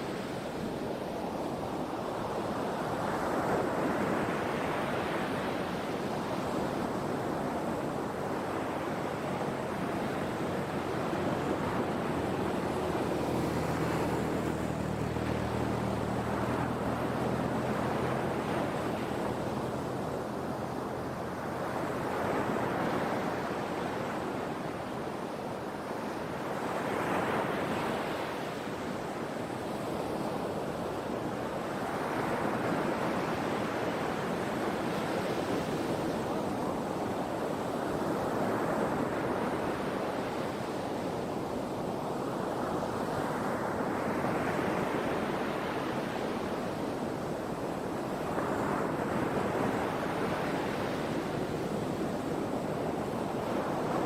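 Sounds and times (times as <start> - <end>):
sea waves washing onto shore: 0.0 - 54.0.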